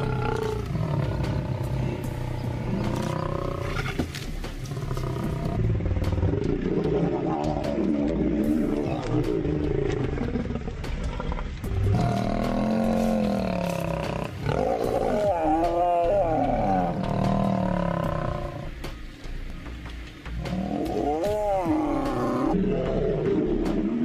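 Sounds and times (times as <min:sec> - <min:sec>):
lions snarling and roaring: 0:00.0 - 0:18.8, 0:20.3 - 0:24.0.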